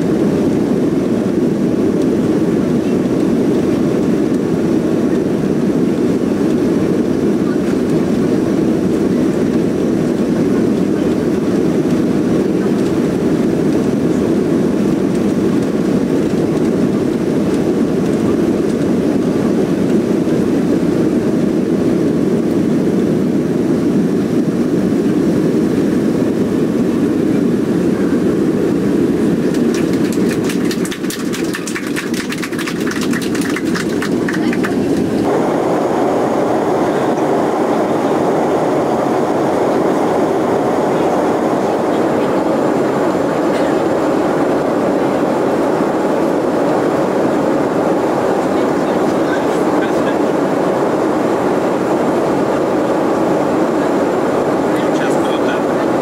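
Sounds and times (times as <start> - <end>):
jet engines at takeoff power: 0.0 - 56.0.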